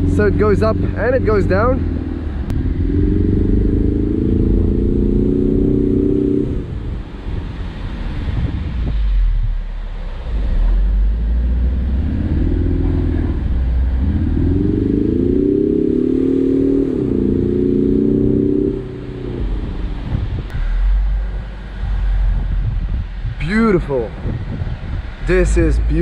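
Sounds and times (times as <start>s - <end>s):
car engine accelerating: 0.0s - 23.4s
low wind rumble: 0.0s - 26.0s.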